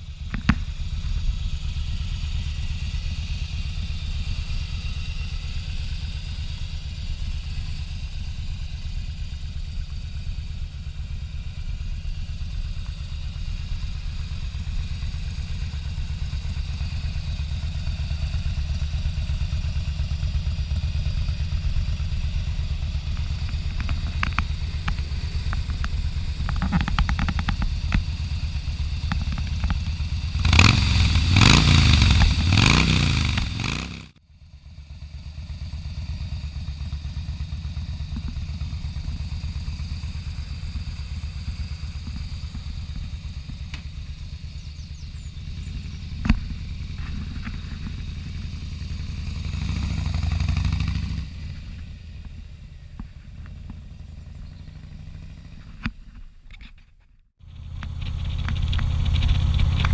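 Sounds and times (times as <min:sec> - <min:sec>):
motorcycle engine idling: 0:00.0 - 0:56.3, 0:57.3 - 0:59.9.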